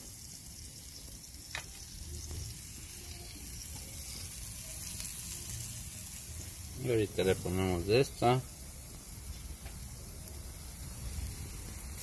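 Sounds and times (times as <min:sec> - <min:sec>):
skewers sizzling on a grill: 0:00.0 - 0:12.0.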